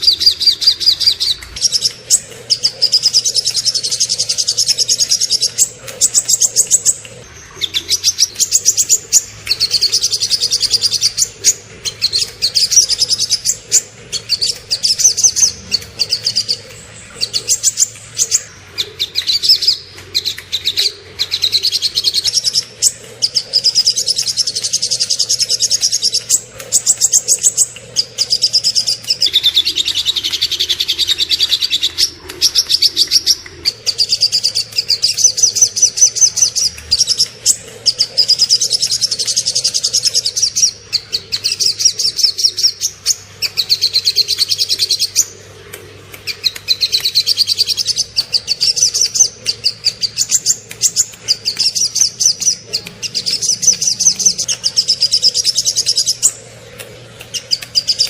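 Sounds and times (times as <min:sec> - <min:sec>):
songbirds singing high trills: 0:00.0 - 0:58.0.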